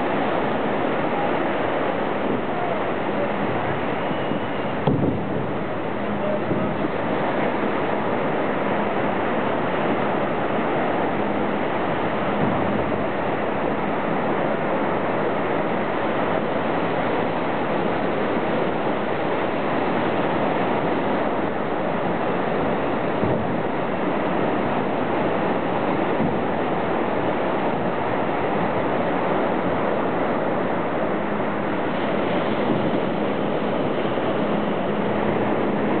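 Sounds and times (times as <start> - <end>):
ocean surf breaking: 0.0 - 36.0.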